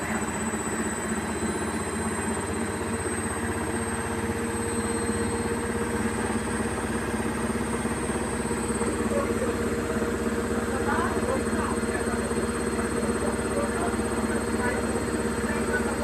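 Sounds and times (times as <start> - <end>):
washing machine spinning: 0.0 - 16.0.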